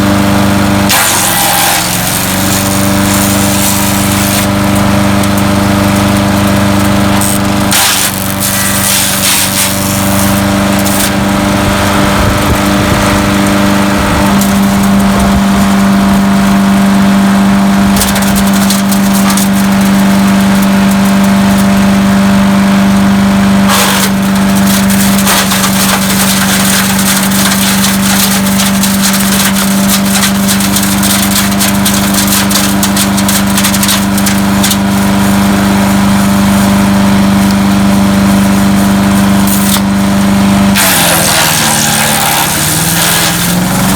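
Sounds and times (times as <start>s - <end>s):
wood chipper engine running: 0.0s - 43.9s
branches crackling and snapping: 0.9s - 17.1s, 17.8s - 22.2s, 22.9s - 43.9s.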